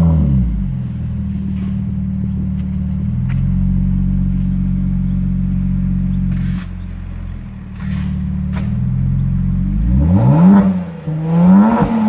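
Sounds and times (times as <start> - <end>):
car exhaust droning at low revs: 0.0 - 12.0.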